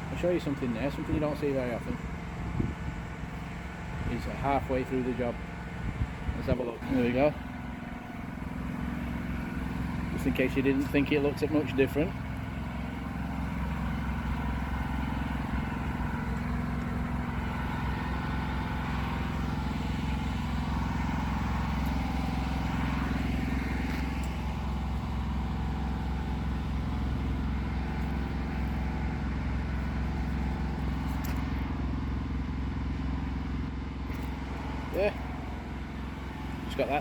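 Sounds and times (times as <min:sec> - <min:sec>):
pressure washer engine running: 0:00.0 - 0:37.0.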